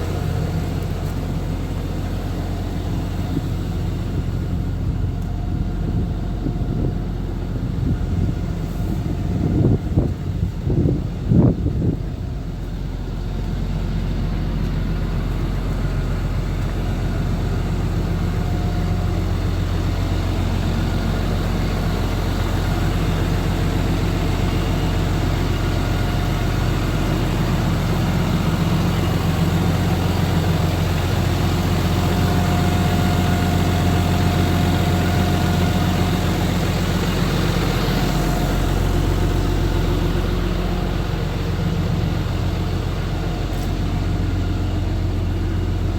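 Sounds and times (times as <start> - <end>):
truck diesel engine idling: 0.0 - 45.9.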